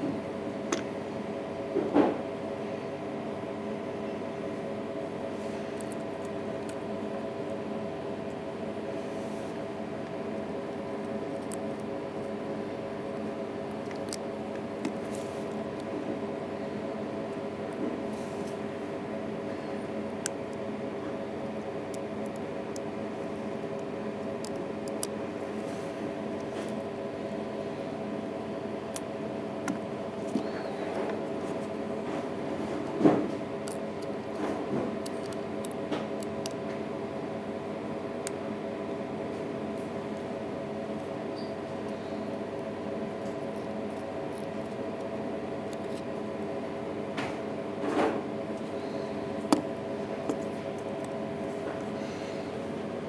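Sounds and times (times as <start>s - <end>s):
steady tonal hum: 0.0s - 53.0s.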